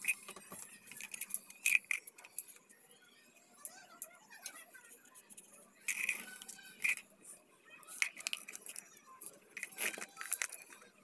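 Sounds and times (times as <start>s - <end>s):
plastic pieces clicking and crinkling: 0.0s - 2.7s, 3.6s - 7.1s, 7.9s - 11.0s.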